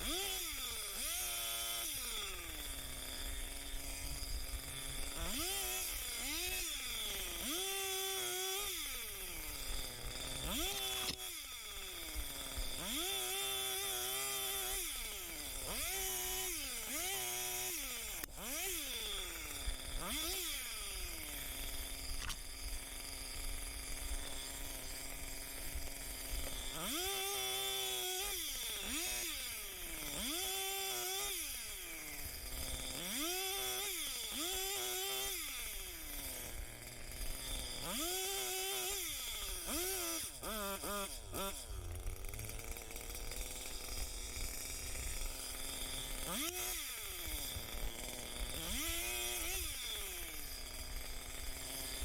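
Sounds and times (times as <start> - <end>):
chainsaw revving and idling: 0.0 - 52.0.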